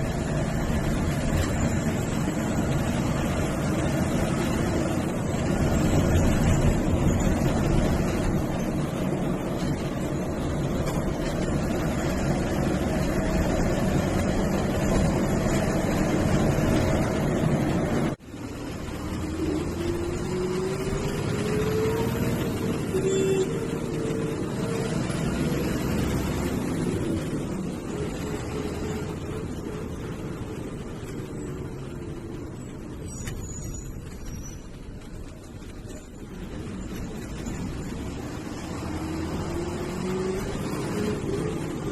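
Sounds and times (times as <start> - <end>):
bus diesel engine running: 0.0 - 41.9
road and wind noise: 0.0 - 41.9.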